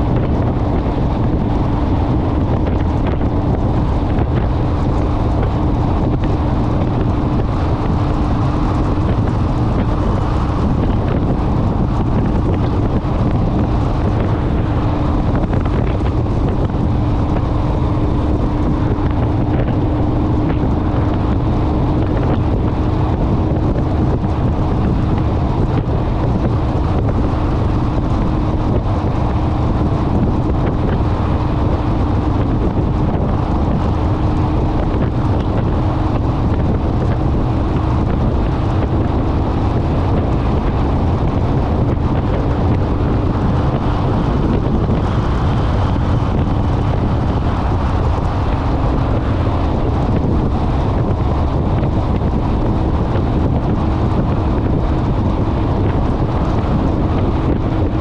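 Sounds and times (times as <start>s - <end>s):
motorcycle engine drone: 0.0s - 58.0s
wind rushing over microphone: 0.0s - 58.0s.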